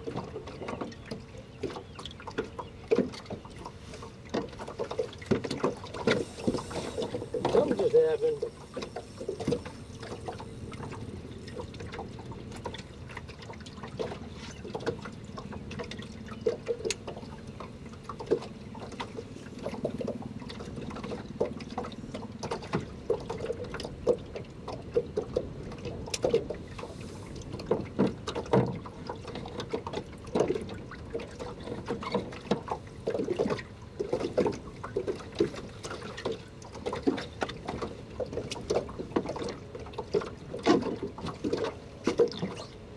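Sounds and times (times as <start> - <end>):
small waves lapping against boat hull: 0.0 - 42.9.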